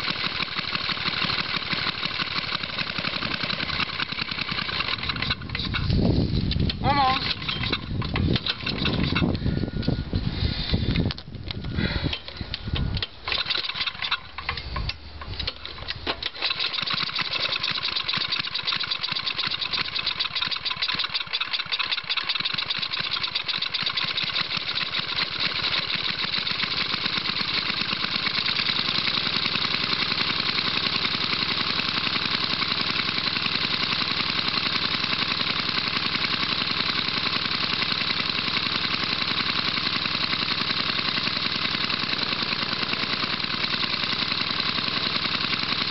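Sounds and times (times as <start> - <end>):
engine sputtering and running: 0.0 - 45.9.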